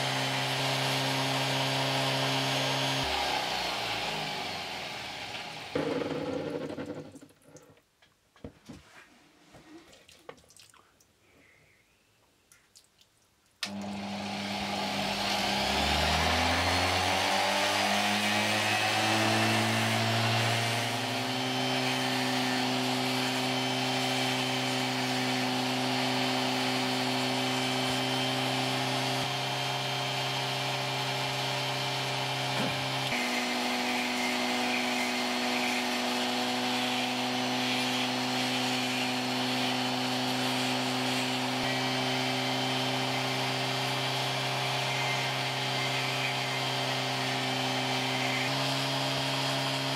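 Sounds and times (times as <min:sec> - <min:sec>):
rotary tool whining: 0:00.0 - 0:07.2, 0:13.7 - 0:49.9.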